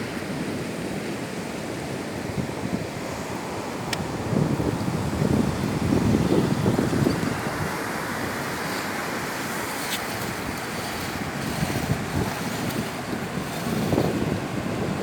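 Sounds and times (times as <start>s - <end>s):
ocean surf washing on beach: 0.0s - 15.0s
wind buffeting microphone: 2.3s - 15.0s.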